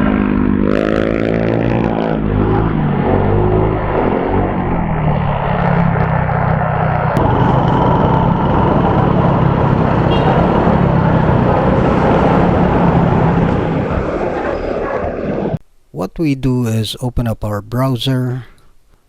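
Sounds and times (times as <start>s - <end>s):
motorcycle engine running: 0.0s - 15.6s
wind and road noise: 0.0s - 15.6s.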